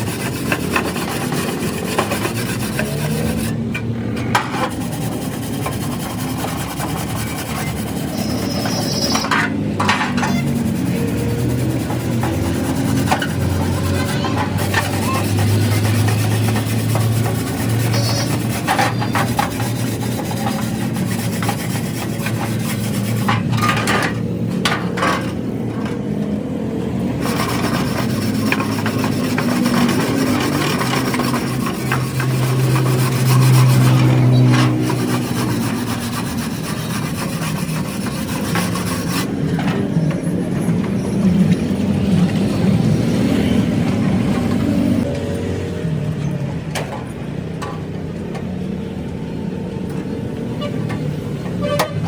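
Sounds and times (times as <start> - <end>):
hand tools scraping metal: 0.0 - 26.0, 27.1 - 41.9, 50.6 - 52.0.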